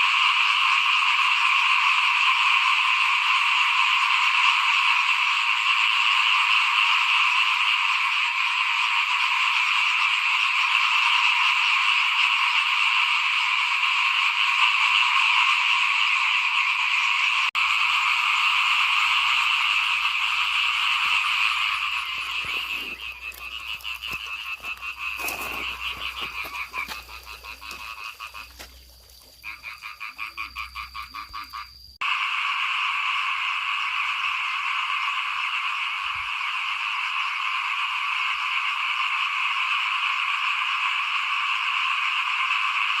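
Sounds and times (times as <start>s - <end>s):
frog chorus calling: 0.0s - 43.0s.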